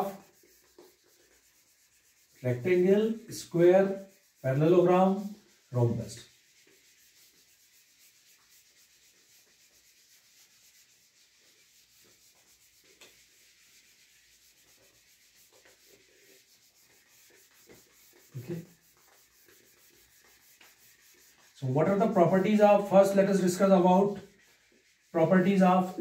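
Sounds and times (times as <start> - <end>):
duster rubbing a whiteboard: 0.0 - 26.0.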